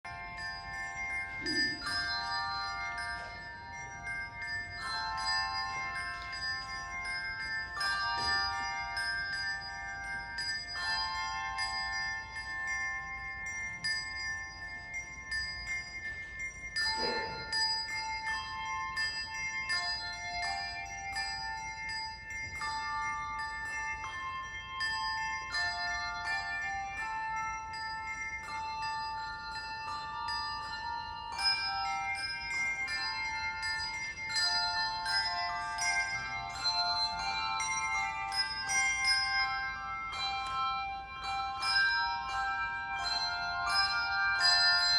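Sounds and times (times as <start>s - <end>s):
handbell choir playing: 0.0s - 44.9s.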